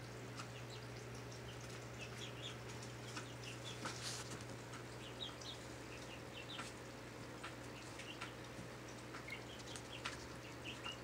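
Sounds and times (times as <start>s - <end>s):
aquarium filter humming: 0.0s - 11.0s
faint high chirps and ticks: 0.0s - 11.0s.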